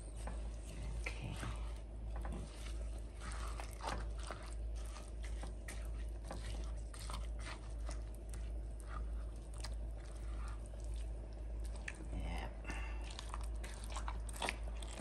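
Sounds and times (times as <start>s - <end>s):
steady low hum: 0.0s - 15.0s
food preparation clicks and crunches: 1.3s - 15.0s.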